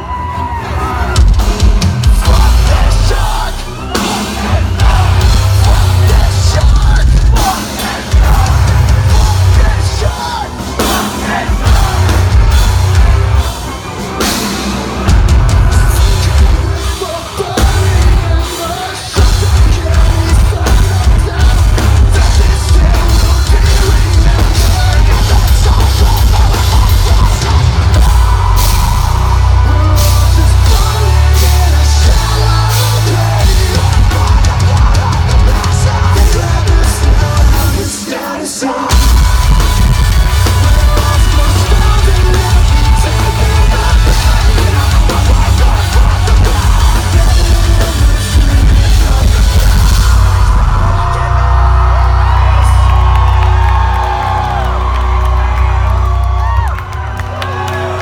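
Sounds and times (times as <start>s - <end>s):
person singing: 0.0s - 52.9s
distorted guitars: 0.0s - 58.0s
heavy drums: 0.0s - 58.0s
live metal band playing: 0.0s - 58.0s.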